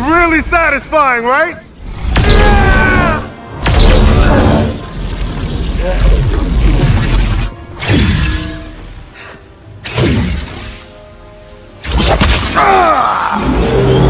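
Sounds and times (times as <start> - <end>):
film soundtrack music: 0.0 - 14.0.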